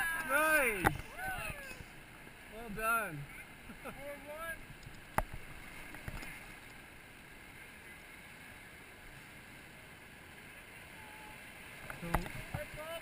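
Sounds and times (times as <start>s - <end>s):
water rushing around boulders: 0.0s - 13.0s.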